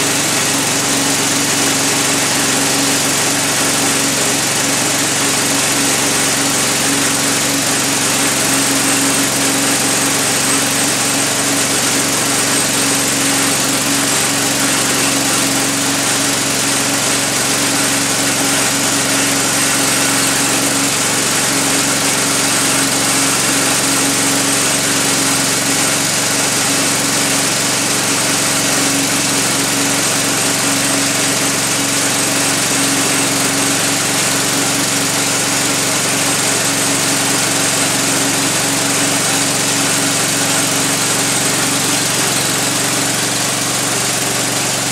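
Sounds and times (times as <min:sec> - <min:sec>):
sawmill engine droning: 0:00.0 - 0:44.9.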